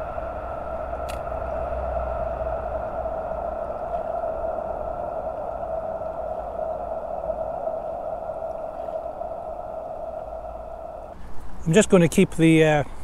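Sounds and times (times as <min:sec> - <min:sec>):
fishing reel whirring: 0:00.0 - 0:11.2.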